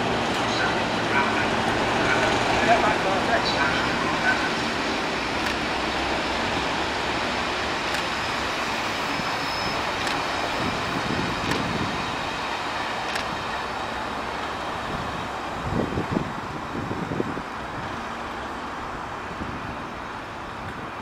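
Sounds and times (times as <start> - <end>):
diesel locomotive engine running: 0.0 - 20.6
train coaches rolling past: 0.0 - 21.0.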